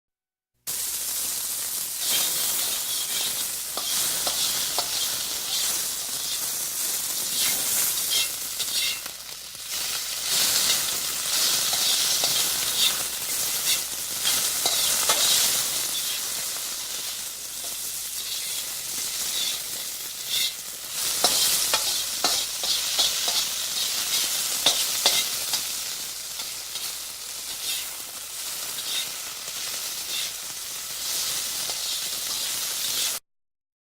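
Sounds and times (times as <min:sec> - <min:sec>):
food sizzling in a pan: 0:00.7 - 0:33.2.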